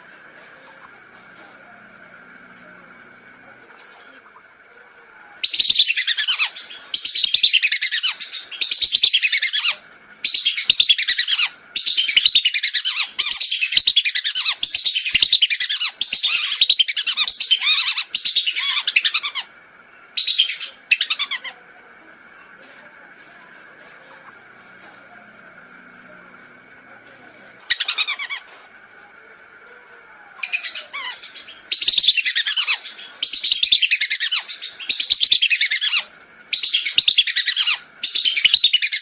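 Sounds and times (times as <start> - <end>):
faint steady tone: 0.0 - 39.0.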